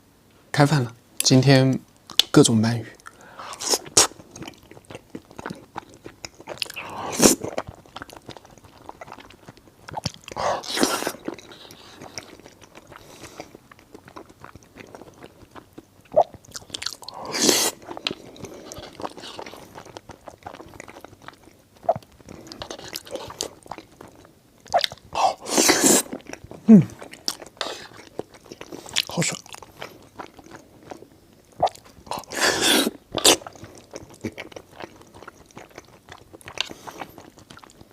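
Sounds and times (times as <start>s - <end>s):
close-up chewing and biting: 3.0s - 37.9s.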